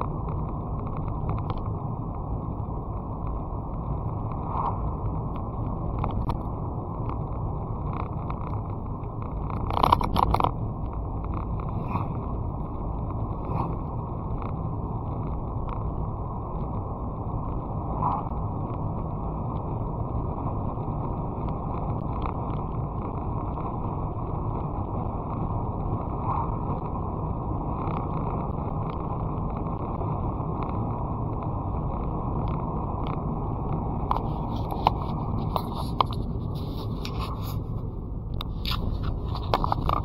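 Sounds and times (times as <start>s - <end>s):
car road and engine noise: 0.0s - 40.0s.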